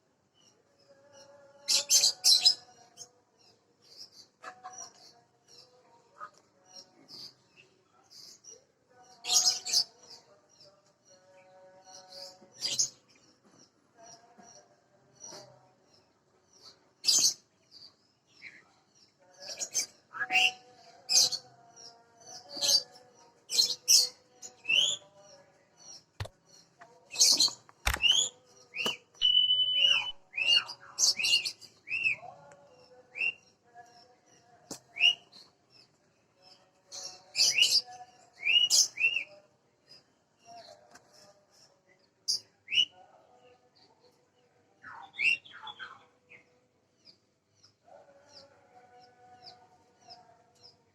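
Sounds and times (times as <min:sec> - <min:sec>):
small birds chirping: 0:00.3 - 0:44.1.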